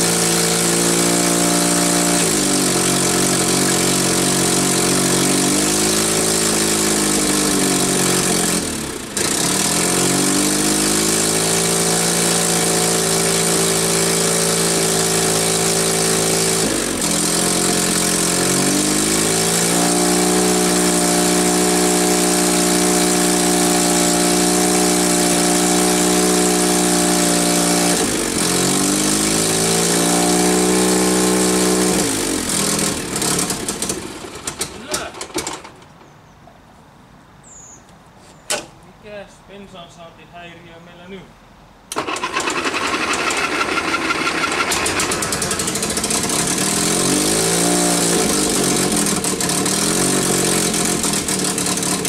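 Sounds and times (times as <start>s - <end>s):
crawler tractor engine running: 0.0s - 36.0s, 41.9s - 52.0s.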